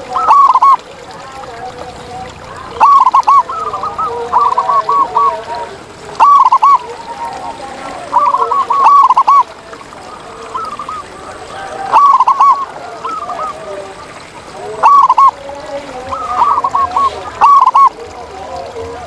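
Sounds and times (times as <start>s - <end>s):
dove cooing: 0.0s - 19.0s
softer dove coos: 0.0s - 19.0s.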